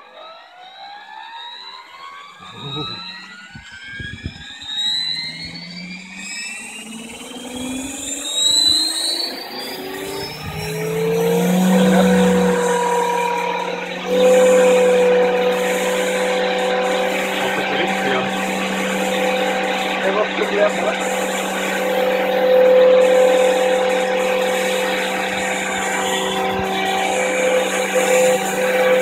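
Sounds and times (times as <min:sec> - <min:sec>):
model helicopter motor whine: 0:00.2 - 0:29.0.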